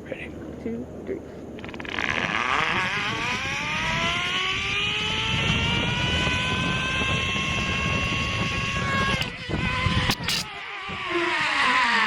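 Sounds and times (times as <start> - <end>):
zip-line pulleys whining on cable: 1.6 - 12.0.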